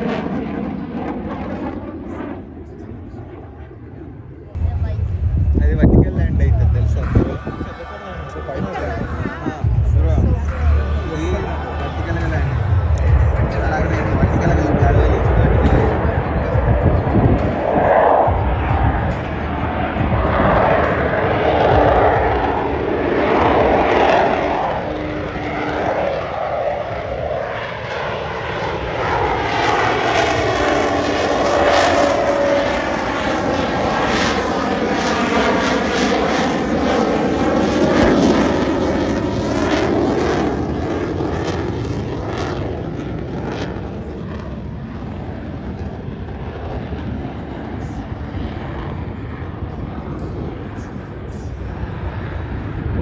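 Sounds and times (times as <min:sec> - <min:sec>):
plane passing overhead: 0:00.0 - 0:53.0.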